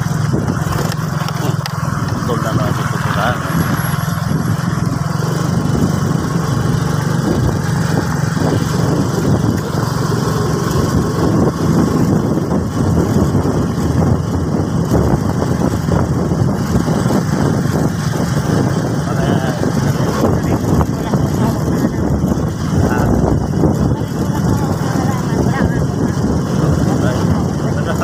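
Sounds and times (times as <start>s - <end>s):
motorcycle engine running: 0.0s - 28.0s
wind on microphone: 0.0s - 28.0s.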